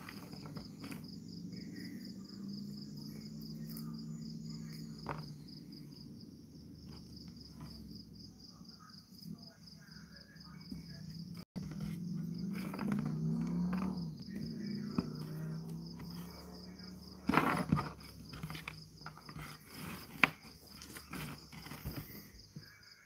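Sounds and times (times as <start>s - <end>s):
cricket chirping: 0.0s - 23.0s.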